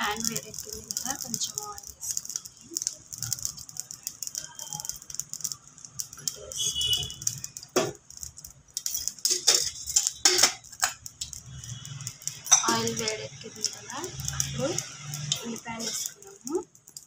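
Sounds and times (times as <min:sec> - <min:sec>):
oil crackling and popping: 0:00.0 - 0:17.0.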